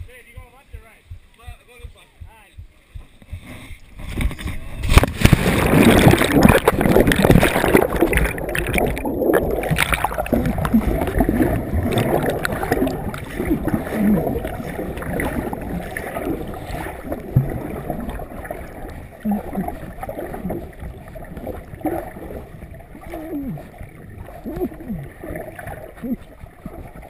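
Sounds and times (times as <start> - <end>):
muffled underwater sloshing: 0.0 - 27.0
bubbling: 4.2 - 27.0.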